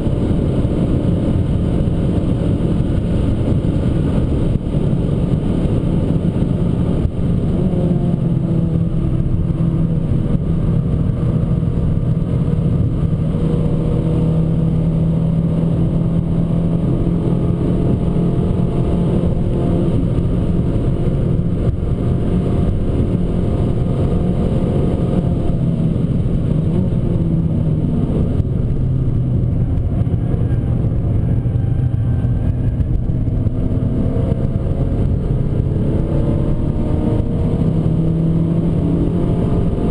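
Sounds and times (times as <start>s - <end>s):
car engine revving at speed: 0.0s - 39.9s
road noise rumble: 0.0s - 39.9s.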